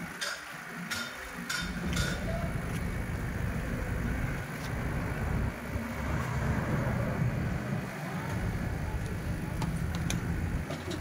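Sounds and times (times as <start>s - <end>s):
market background rumble: 0.0s - 11.0s.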